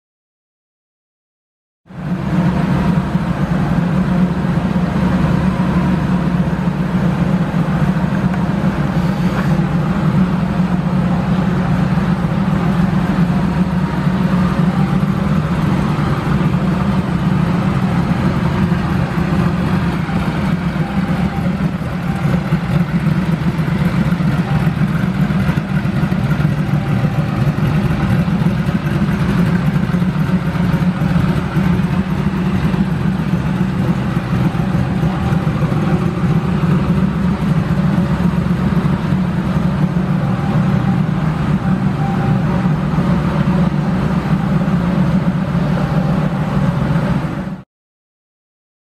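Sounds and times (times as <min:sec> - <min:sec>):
car engine idling: 0:01.9 - 0:47.5.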